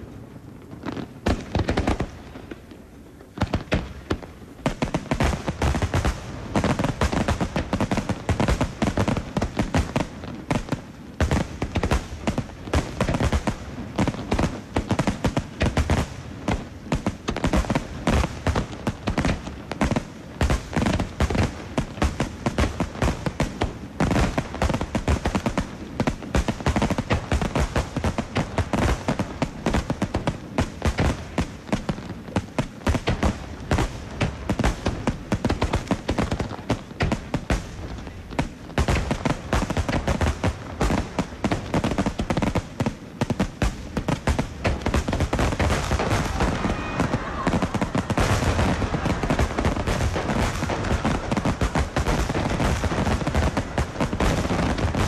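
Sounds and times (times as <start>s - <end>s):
distant fireworks booms and crackles: 0.0s - 55.0s.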